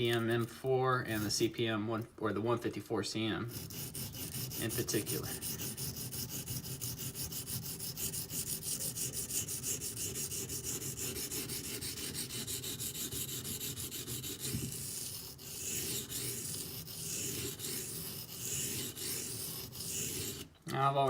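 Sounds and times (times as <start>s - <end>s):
knife blade scraping on whetstone: 3.5s - 20.5s.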